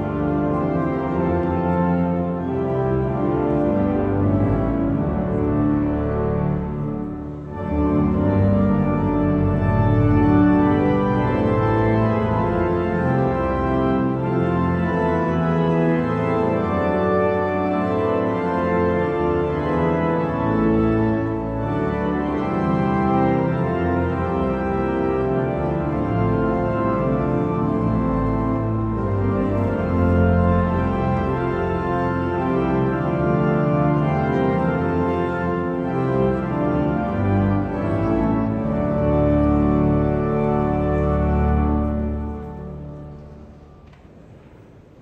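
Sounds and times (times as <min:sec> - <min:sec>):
pipe organ playing hymn chords: 0:00.0 - 0:45.0.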